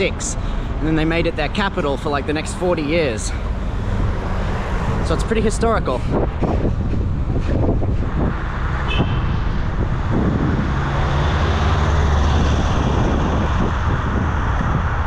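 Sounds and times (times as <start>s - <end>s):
bus engine hum: 0.0s - 15.0s
street traffic noise: 0.0s - 15.0s.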